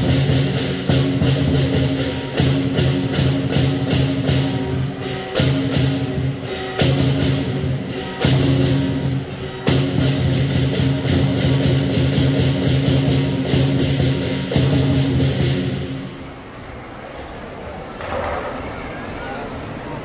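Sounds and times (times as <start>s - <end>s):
large drum beating: 0.0s - 16.2s
cymbals crashing: 0.0s - 16.4s.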